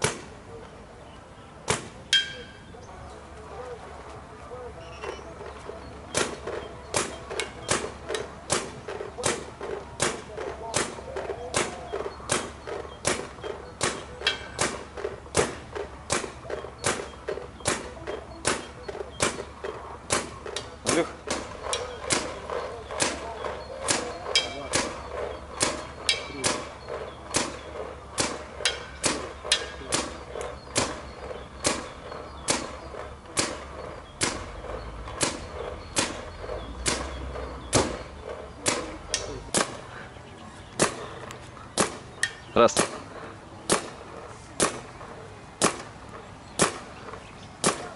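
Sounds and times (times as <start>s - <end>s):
paintball marker shots: 0.0s - 0.4s, 1.7s - 2.4s, 6.1s - 39.9s, 40.8s - 45.9s, 46.5s - 47.9s.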